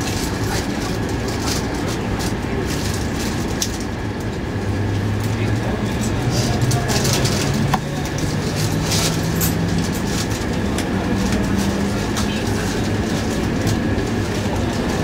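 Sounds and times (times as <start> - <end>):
train rumble with motor hum: 0.0 - 15.0.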